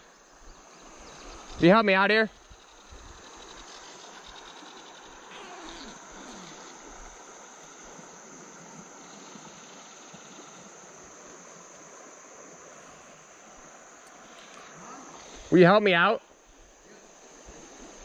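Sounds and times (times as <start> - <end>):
insects droning: 0.0 - 18.0
river water flowing: 0.0 - 18.0.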